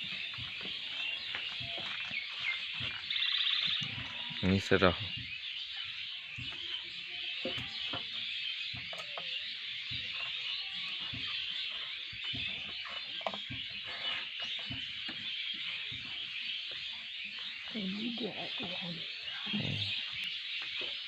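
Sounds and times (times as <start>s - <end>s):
many birds chirping: 0.0s - 21.0s.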